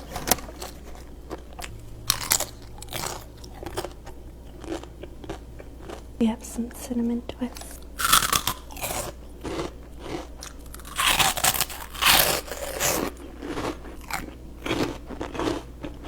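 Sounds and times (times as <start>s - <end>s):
crunching and chewing: 0.0s - 6.2s, 7.5s - 16.0s.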